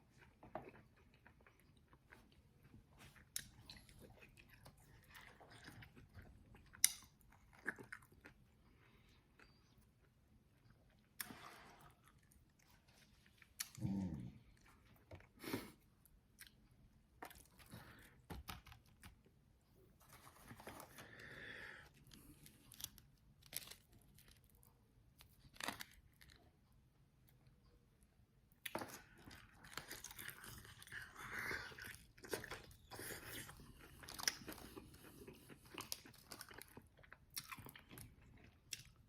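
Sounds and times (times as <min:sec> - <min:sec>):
chewing and crunching: 0:00.0 - 0:15.4, 0:20.0 - 0:27.4, 0:28.6 - 0:39.0.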